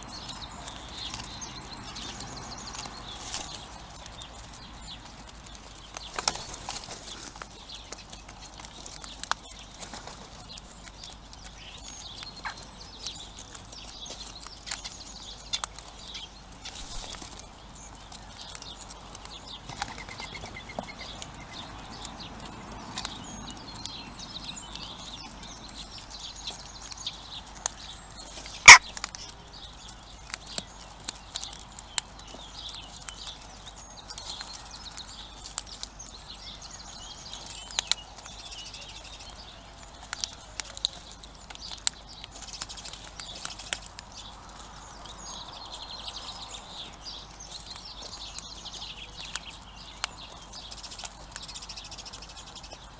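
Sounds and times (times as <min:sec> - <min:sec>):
birds pecking at wooden trays: 0:00.0 - 0:52.9
faint birdsong: 0:00.0 - 0:52.9.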